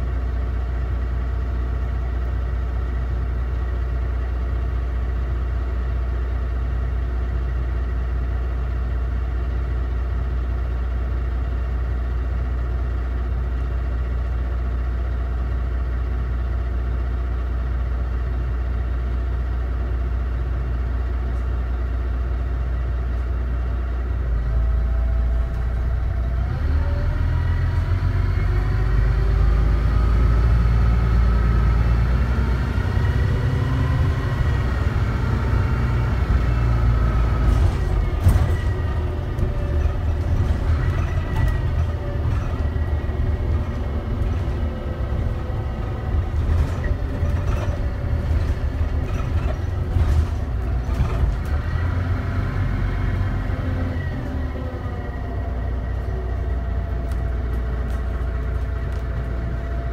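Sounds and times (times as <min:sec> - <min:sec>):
bus engine idling and pulling away: 0:00.0 - 0:59.9.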